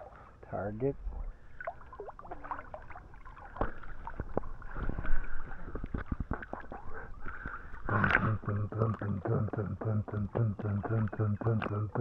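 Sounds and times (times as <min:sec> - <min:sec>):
pool water splashing: 0:01.2 - 0:12.0
water slaps and drips: 0:01.5 - 0:09.4, 0:10.0 - 0:12.0.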